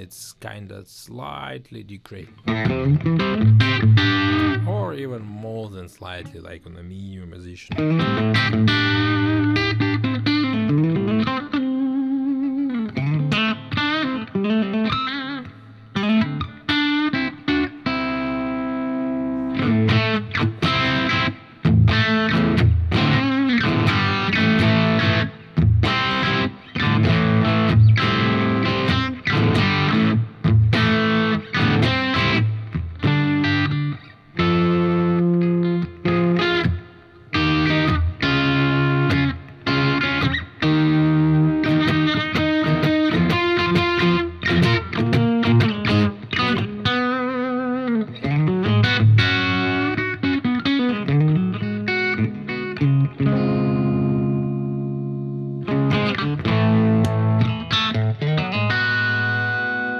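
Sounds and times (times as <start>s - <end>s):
overdriven electric guitar: 2.2s - 4.8s, 7.7s - 59.9s.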